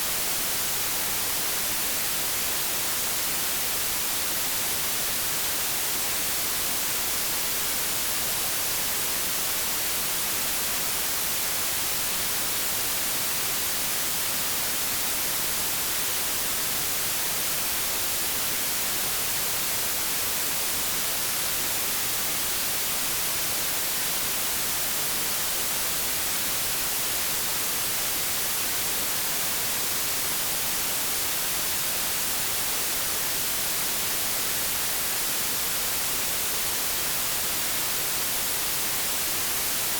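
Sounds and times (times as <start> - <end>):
white noise static hiss: 0.0 - 39.9.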